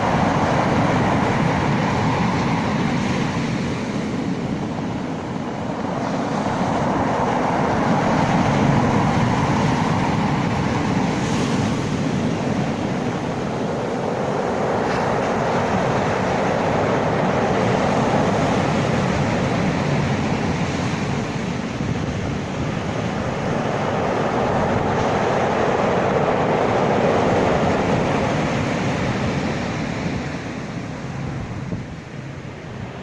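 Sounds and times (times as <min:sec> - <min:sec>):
sea waves washing: 0:00.0 - 0:33.0.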